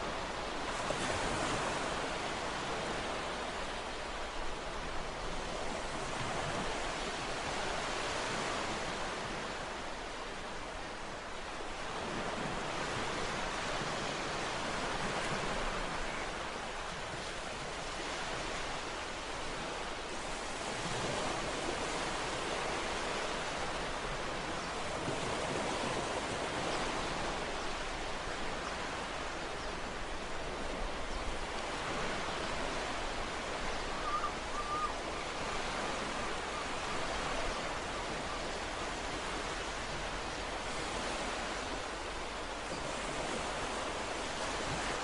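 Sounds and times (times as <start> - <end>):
ocean surf washing onto shore: 0.0 - 45.0.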